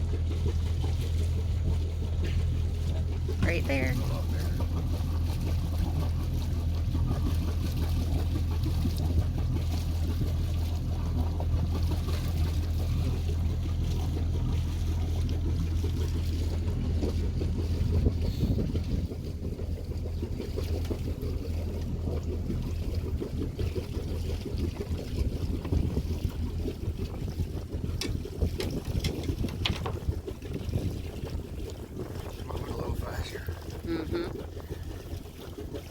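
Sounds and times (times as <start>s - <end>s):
boat motor humming: 0.0s - 35.9s
water noise: 0.0s - 35.9s
wind: 0.0s - 35.9s.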